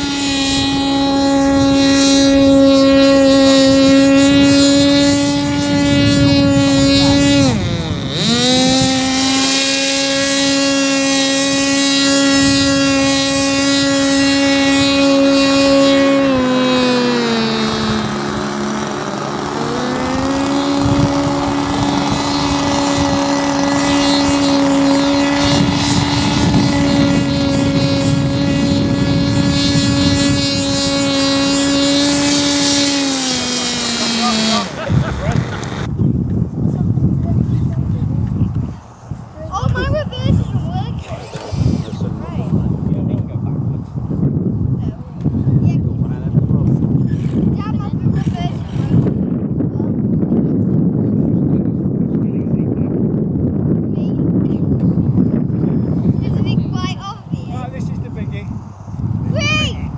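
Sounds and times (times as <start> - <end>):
model hovercraft motor and fan: 0.0 - 59.9.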